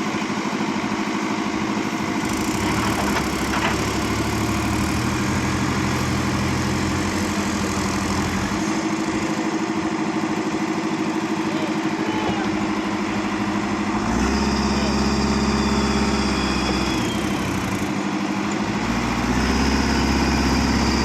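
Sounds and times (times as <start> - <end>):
tractor diesel engines running: 0.0 - 21.0.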